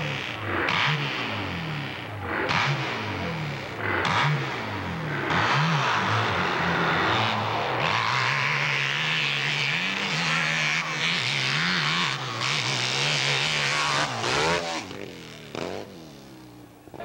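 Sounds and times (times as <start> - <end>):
motorcycle engine at full throttle: 0.0 - 17.0.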